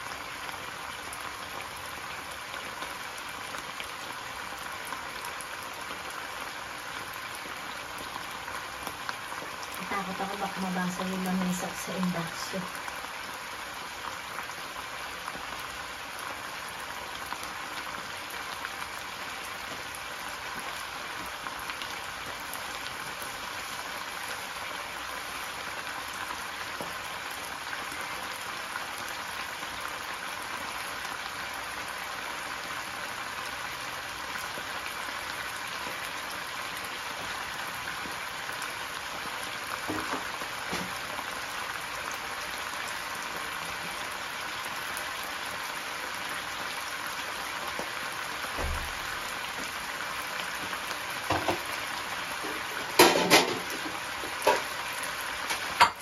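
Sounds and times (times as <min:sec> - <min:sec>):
pork simmering in a wok: 0:00.0 - 0:56.0.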